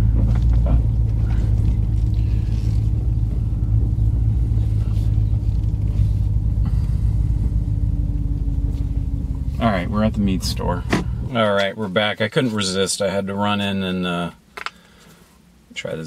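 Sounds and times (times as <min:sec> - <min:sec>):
engine and road rumble: 0:00.0 - 0:13.8.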